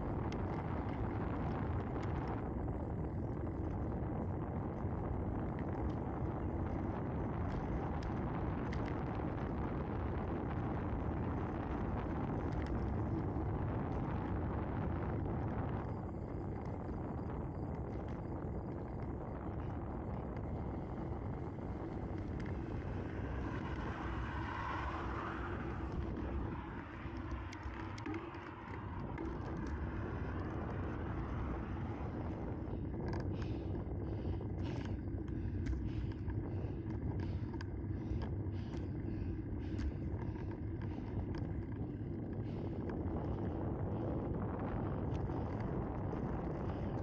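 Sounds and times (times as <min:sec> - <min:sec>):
road noise: 0:00.0 - 0:47.0
wind buffeting microphone: 0:00.0 - 0:47.0.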